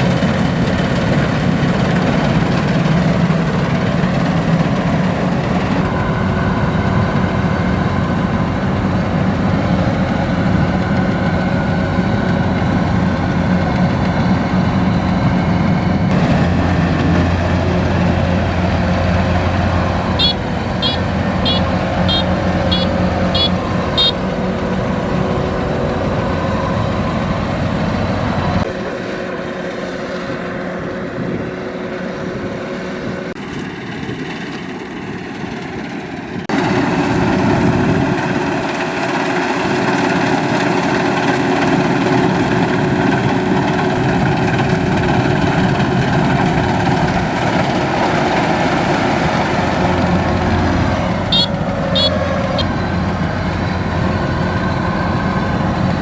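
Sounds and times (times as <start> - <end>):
combine harvester diesel engine running: 0.0 - 56.0.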